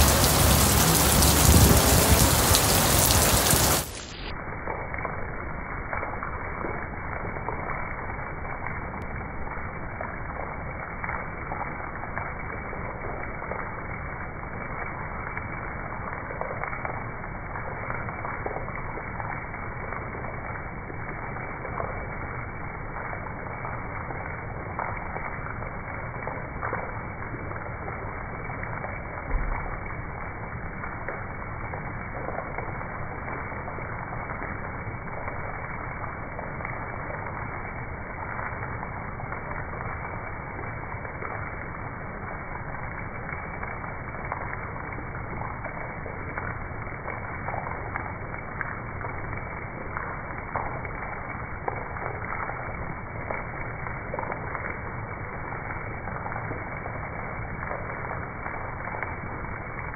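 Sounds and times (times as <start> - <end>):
heavy rain splashing on ledge: 0.0 - 59.9.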